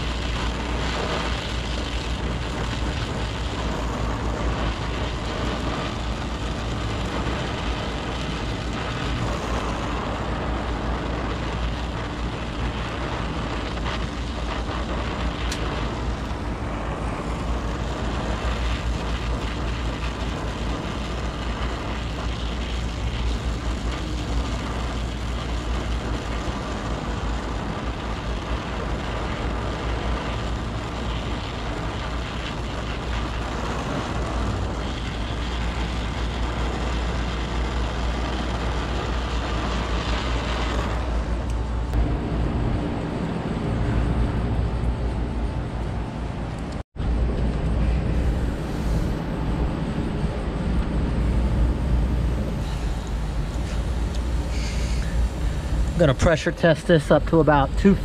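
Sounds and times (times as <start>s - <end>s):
torch flame hissing: 0.0s - 42.2s, 47.8s - 58.0s
low steady rumble: 0.0s - 58.0s.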